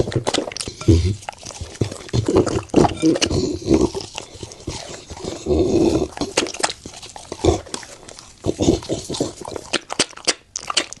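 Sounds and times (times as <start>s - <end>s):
dog chewing bone crunches: 0.0s - 11.0s.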